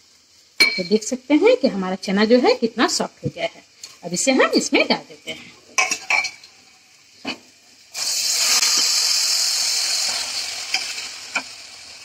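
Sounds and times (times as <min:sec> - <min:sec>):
loud sizzle in hot oil: 0:00.0 - 0:12.0.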